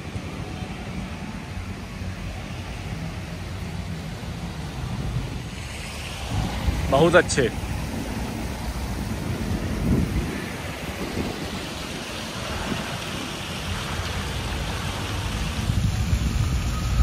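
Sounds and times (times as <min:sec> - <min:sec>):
fountain water splashing into basin: 0:01.9 - 0:17.0.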